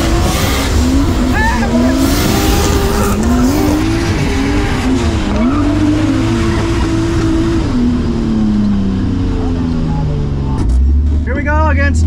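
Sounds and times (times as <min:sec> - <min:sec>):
car engine revving hard: 0:00.0 - 0:11.2
tyres skidding: 0:00.0 - 0:12.0.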